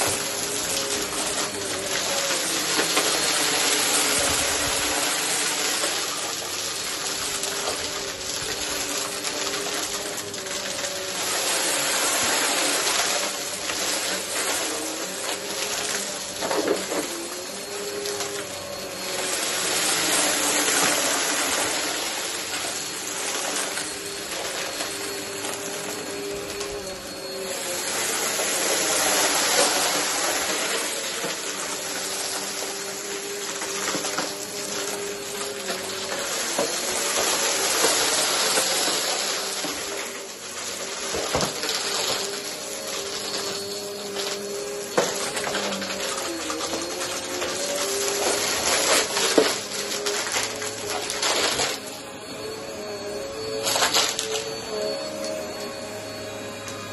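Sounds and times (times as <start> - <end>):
vacuum cleaner running over carpet: 0.0 - 56.9.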